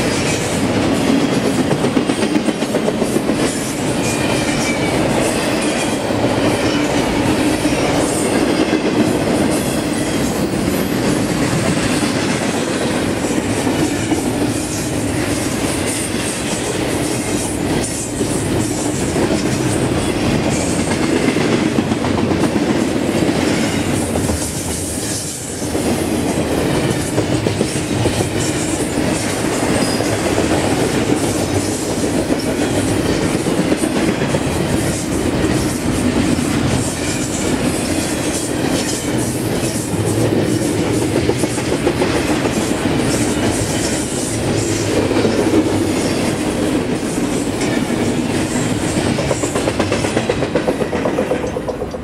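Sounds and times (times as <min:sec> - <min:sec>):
freight train wheels rumbling on rails: 0:00.0 - 0:52.0.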